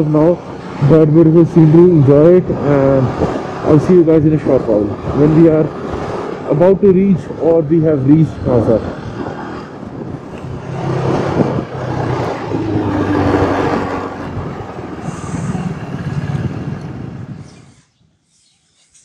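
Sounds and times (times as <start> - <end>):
wind rushing over microphone: 0.0 - 18.2.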